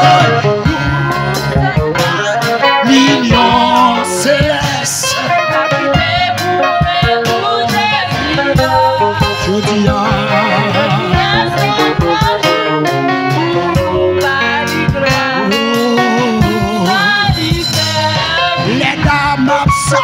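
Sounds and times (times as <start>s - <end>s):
amplified instrumental accompaniment: 0.0s - 20.0s
women's choir singing gospel: 0.0s - 20.0s.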